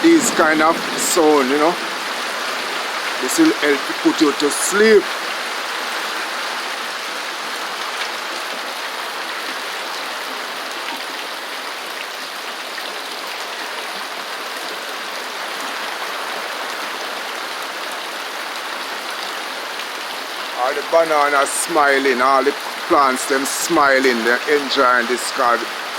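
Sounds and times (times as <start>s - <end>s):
rain on a metal roof: 0.0s - 25.9s.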